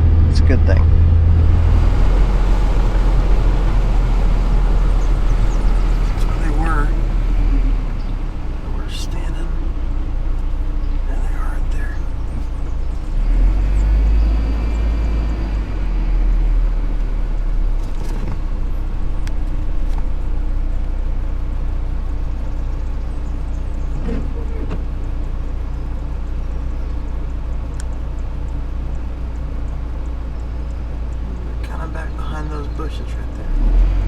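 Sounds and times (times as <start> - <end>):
vehicle engine low rumble: 0.0 - 34.0.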